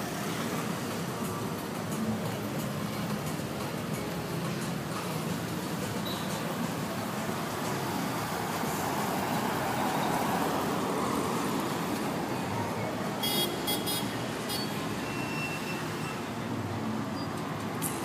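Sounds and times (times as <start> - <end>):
cars and motorcycles passing: 0.0 - 18.0.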